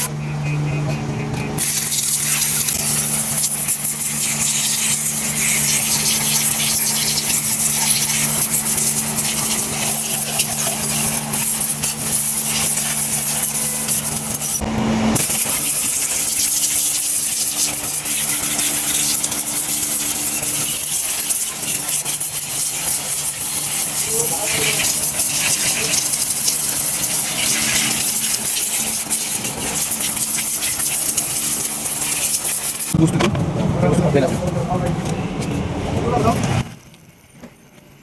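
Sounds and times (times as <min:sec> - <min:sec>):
machine hum: 0:00.0 - 0:33.9
high-pressure spray hissing: 0:01.6 - 0:14.6, 0:15.2 - 0:33.0.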